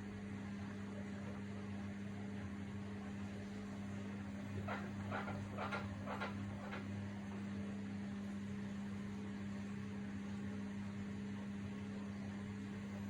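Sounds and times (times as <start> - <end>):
washing machine hum: 0.0 - 13.0.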